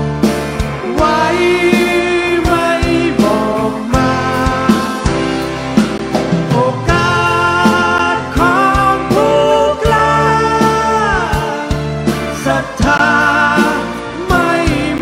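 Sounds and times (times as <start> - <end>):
drums keeping a steady beat: 0.0 - 15.0
man singing: 0.8 - 5.5, 6.4 - 15.0.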